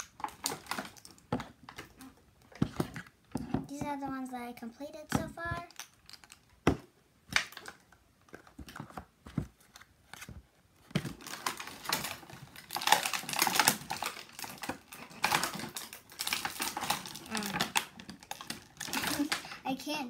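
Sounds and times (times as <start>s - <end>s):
plastic packaging crackling and clicking: 0.0s - 3.5s, 5.0s - 19.7s.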